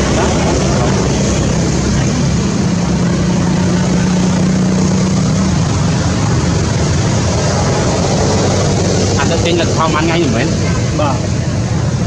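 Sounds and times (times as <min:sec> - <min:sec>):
constant rushing noise: 0:00.0 - 0:12.0
engine humming: 0:00.0 - 0:12.0.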